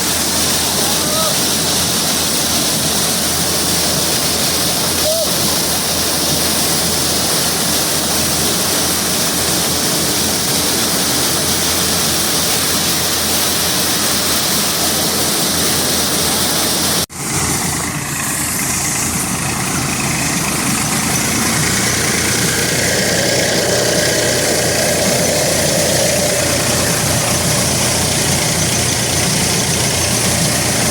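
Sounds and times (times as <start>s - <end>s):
harvesting machine engine running: 0.0s - 30.9s.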